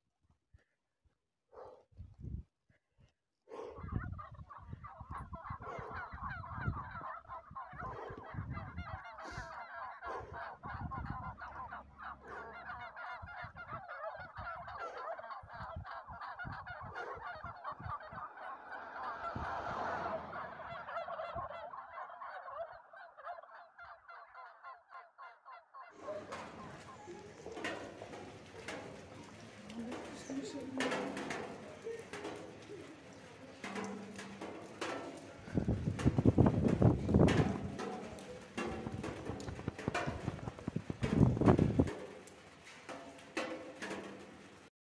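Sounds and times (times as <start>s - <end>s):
turkeys gobbling: 3.6s - 44.7s.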